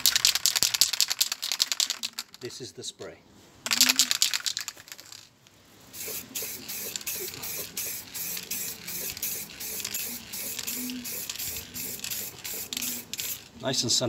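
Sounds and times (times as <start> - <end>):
spray paint can hissing: 0.0 - 2.4, 3.7 - 5.2, 5.9 - 13.5.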